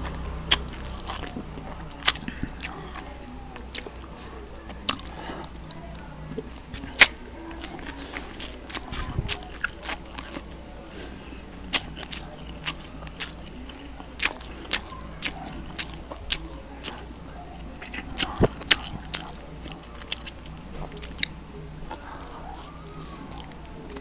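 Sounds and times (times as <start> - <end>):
man chewing noodles: 0.0 - 24.0
steady low hum: 0.0 - 24.0.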